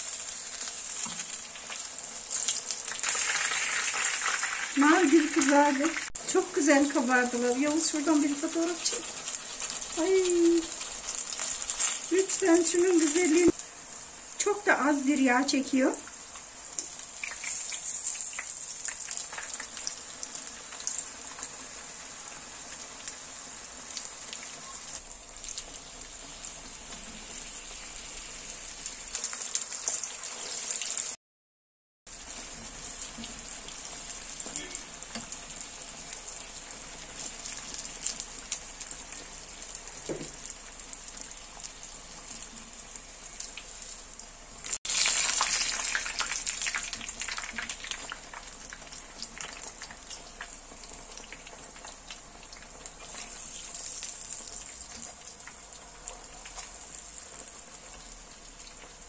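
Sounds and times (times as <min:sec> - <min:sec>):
oil crackling and popping: 0:00.0 - 0:06.2, 0:06.9 - 0:13.6, 0:16.0 - 0:21.6, 0:22.6 - 0:31.2, 0:32.1 - 0:59.0
pastries frying in oil: 0:00.0 - 0:31.2, 0:32.1 - 0:59.0.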